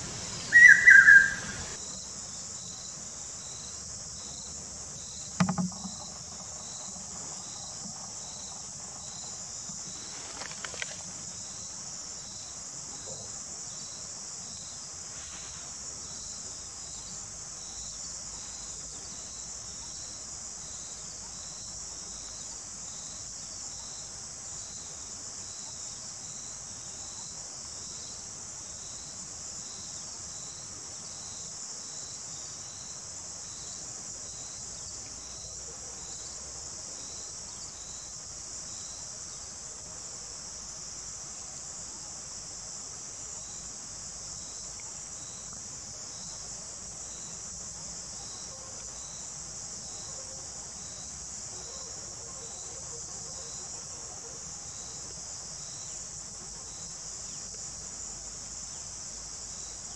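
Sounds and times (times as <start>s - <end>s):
insect chirp: 0.0s - 59.9s
insect high-pitched drone: 0.0s - 59.9s.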